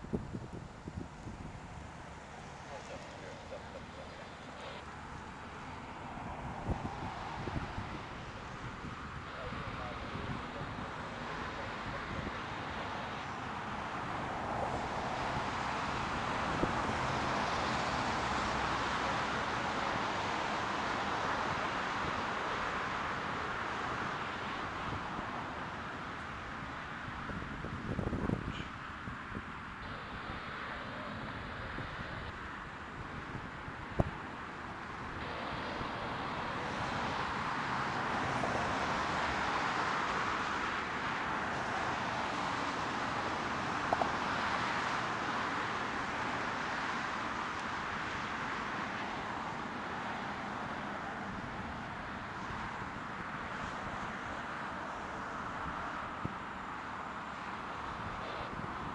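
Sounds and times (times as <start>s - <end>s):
road traffic rushing by: 0.0s - 58.9s.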